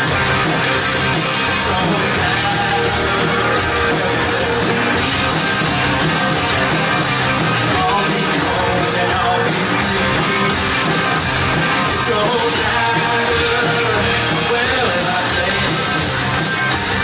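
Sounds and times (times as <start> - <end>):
live rock band playing: 0.0 - 17.0
person singing: 1.2 - 6.3, 7.5 - 17.0.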